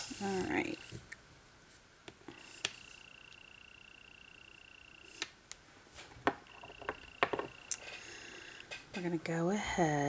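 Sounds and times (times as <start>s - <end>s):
curing lamp high-pitched whine: 0.0s - 10.0s.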